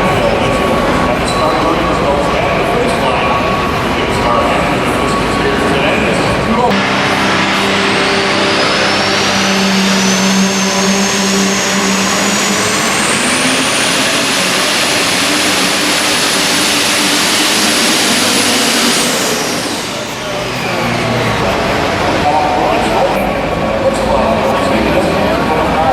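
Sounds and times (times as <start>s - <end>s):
diesel truck engine at full throttle: 0.0s - 25.9s
turbocharger whine: 0.0s - 25.9s.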